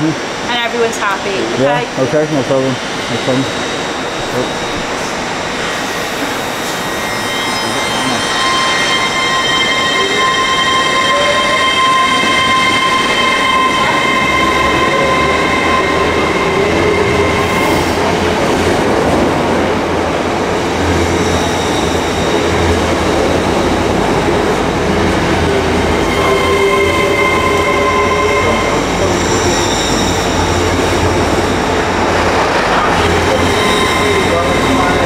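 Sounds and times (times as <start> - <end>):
high steady whining tones: 0.0 - 35.0
train running with low rumble: 0.0 - 35.0.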